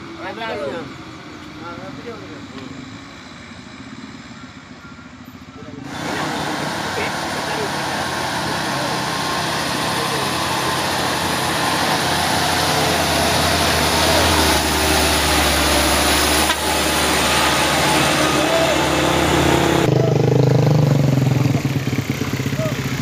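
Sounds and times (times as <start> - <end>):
diesel truck engine under load: 0.0 - 23.0
engine with steady pitched note: 0.0 - 23.0.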